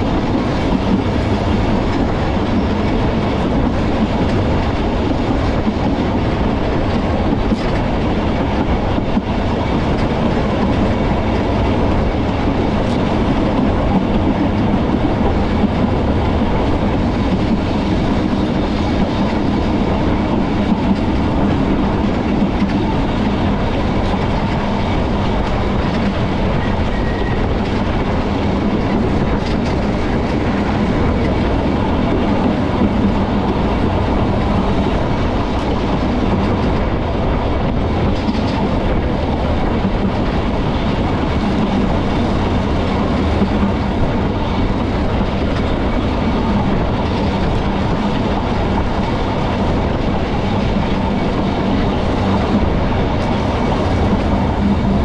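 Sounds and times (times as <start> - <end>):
tram wheels on rails: 0.0 - 55.0.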